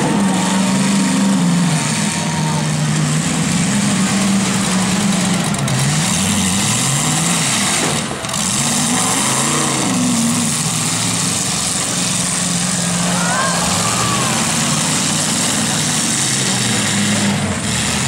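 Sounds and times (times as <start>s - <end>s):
truck engines revving hard: 0.0s - 18.0s.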